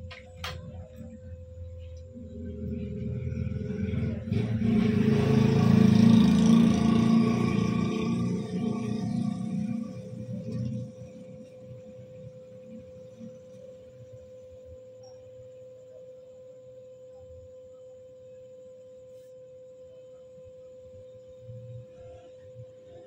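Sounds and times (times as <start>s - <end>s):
low room rumble: 0.0s - 23.0s.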